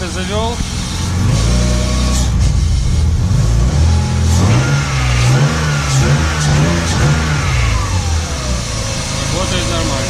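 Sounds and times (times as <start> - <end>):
engine running smoothly: 0.0 - 10.0.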